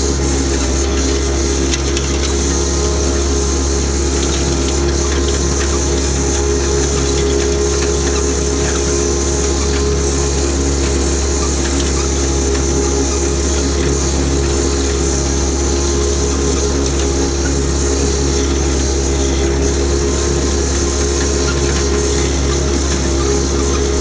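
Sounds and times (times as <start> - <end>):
mower diesel engine droning: 0.0 - 24.0.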